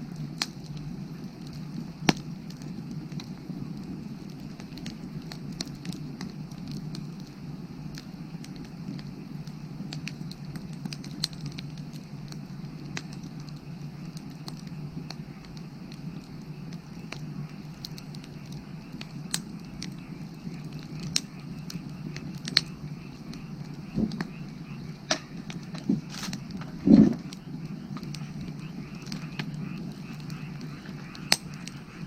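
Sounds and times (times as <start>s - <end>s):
fire crackling: 0.0s - 32.0s
sharp pops from fire: 0.0s - 32.0s.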